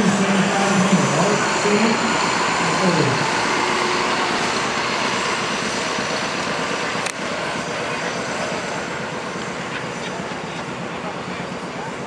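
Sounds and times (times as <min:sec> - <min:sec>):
tractor engines running: 0:00.0 - 0:12.0.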